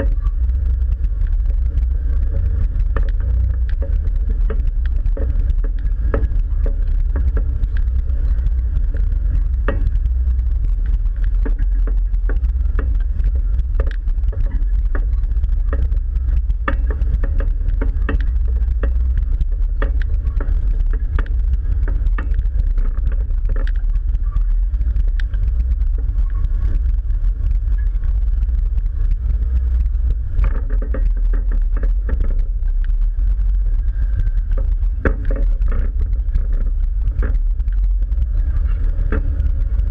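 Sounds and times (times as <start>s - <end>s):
engine low rumble: 0.0s - 39.9s
knocks and rattles: 0.0s - 39.9s.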